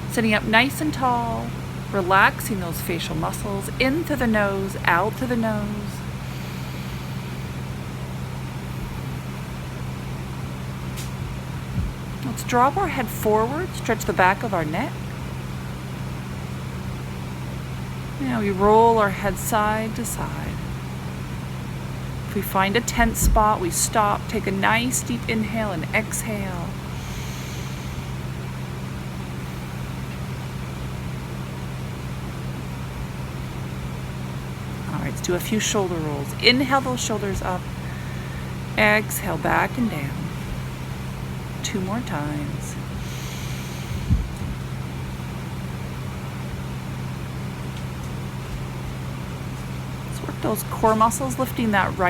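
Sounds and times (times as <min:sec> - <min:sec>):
airliner cabin air supply hum: 0:00.0 - 0:52.0
ventilation drone: 0:00.0 - 0:52.0.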